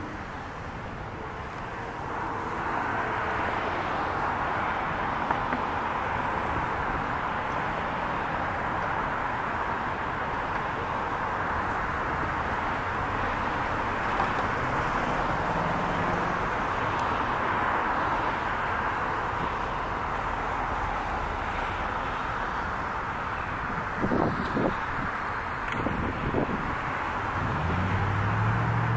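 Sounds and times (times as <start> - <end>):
distant road traffic hum: 0.0 - 28.9.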